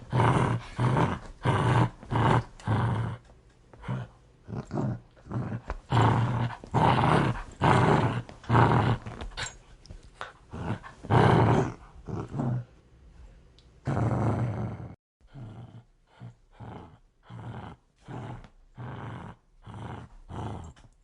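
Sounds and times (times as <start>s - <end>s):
dog growling: 0.0s - 9.6s, 10.5s - 12.7s, 13.8s - 20.9s.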